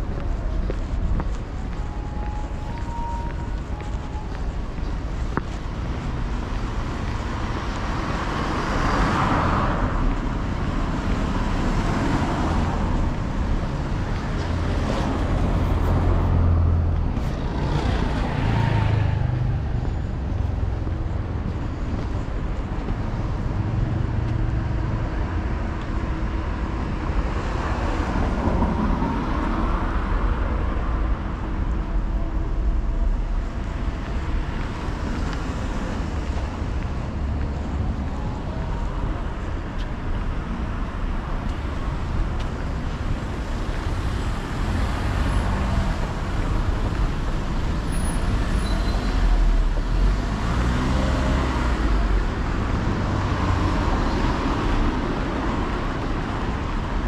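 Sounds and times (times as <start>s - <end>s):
cars passing: 0.0s - 57.0s
low traffic rumble: 0.0s - 57.0s.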